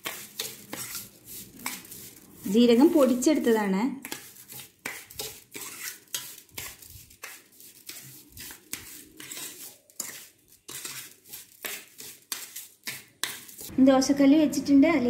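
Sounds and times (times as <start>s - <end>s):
spoon scraping metal bowl: 0.0s - 13.8s.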